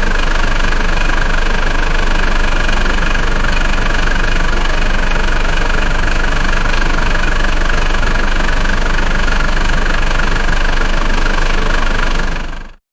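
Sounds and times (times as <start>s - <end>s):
diesel engine running with clatter: 0.0s - 12.8s.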